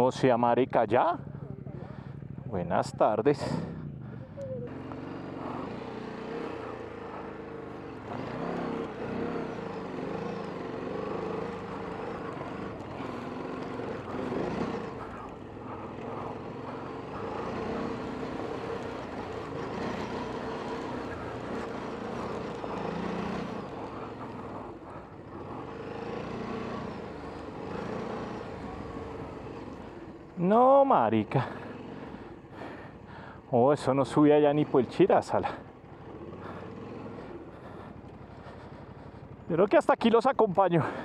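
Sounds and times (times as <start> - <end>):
motorcycle engine revving: 1.1 - 39.7.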